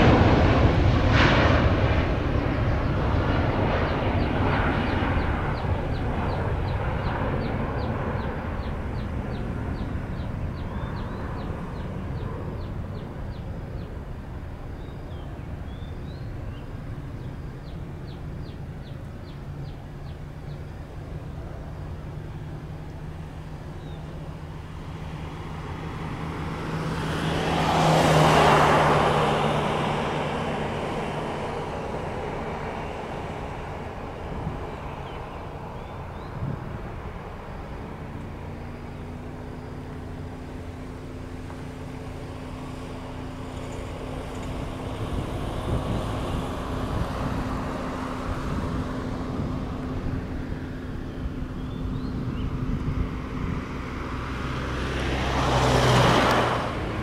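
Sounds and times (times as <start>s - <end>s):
jet airliner engine noise: 0.0s - 57.0s
nearer aircraft pass: 0.0s - 57.0s.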